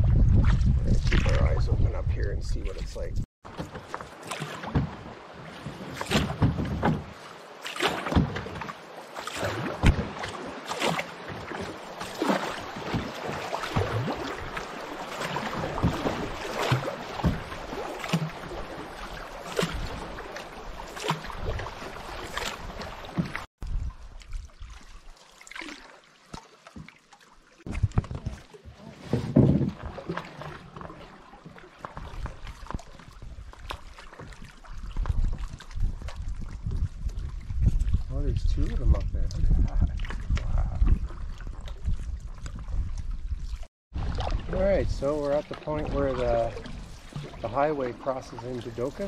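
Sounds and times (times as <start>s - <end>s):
water washing: 2.6s - 41.9s, 44.0s - 49.0s
paddle strokes splashing: 3.4s - 49.0s.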